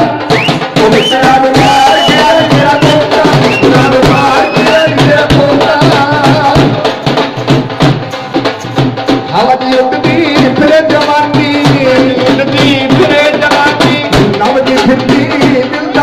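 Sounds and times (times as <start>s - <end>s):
fast steady drum beat: 0.0s - 16.0s.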